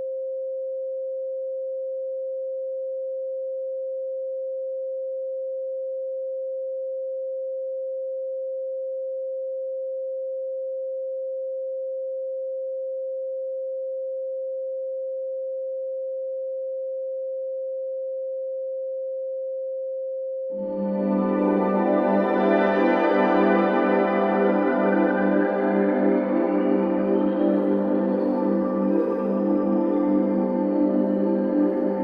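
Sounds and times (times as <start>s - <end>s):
steady sine tone: 0.0s - 32.0s.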